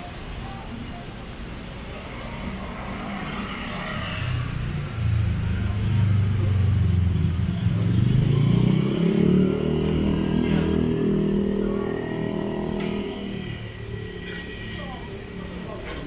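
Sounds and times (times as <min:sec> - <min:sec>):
vehicle engine accelerating: 0:02.1 - 0:16.0.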